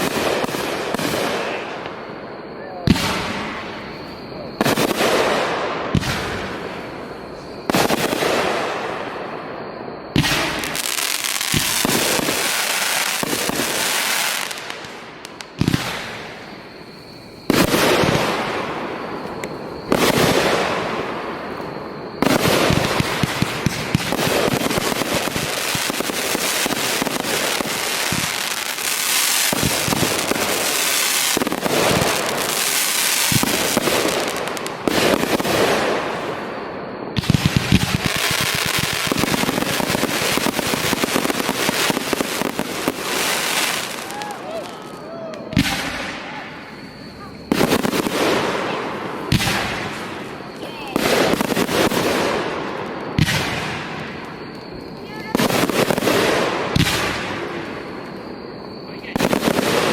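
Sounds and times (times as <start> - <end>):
fireworks bangs and crackle: 0.0 - 59.9.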